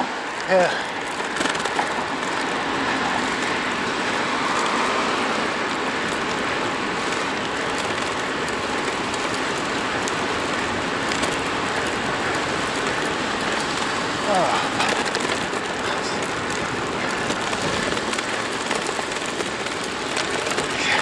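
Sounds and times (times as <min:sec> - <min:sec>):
clicks and rattles over paving: 0:00.0 - 0:21.0.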